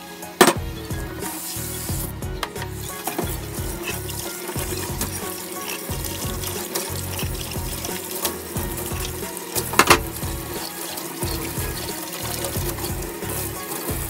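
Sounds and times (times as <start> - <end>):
background music with steady beat: 0.0 - 14.0
dishes clattering: 0.2 - 1.5, 2.4 - 14.0
tap water running into sink: 0.2 - 14.0.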